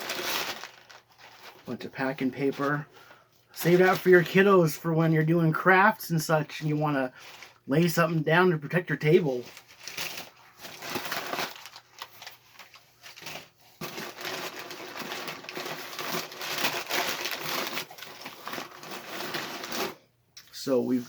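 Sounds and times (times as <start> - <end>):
packing paper crinkling: 0.0 - 5.0, 6.2 - 8.0, 8.6 - 20.0.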